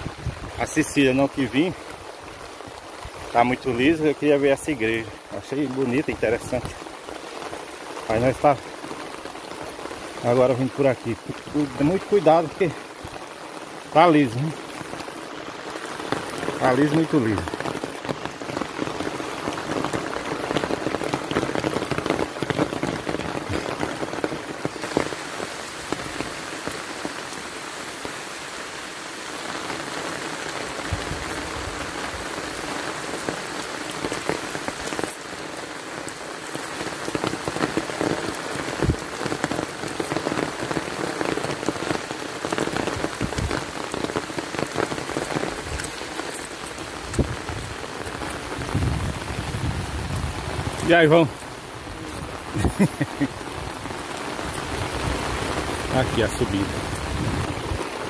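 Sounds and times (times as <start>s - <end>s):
close raindrops: 0.0s - 58.0s
steady rain falling: 0.0s - 58.0s.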